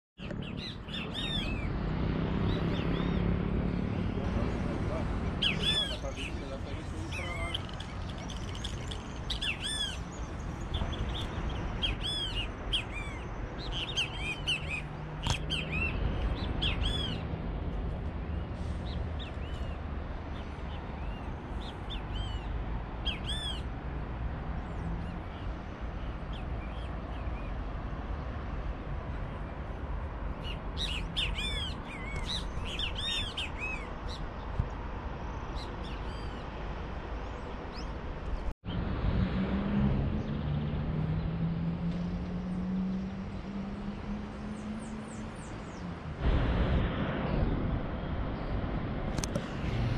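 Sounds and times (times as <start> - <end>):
birds chirping: 0.2 - 17.4, 18.2 - 38.5, 40.0 - 46.1.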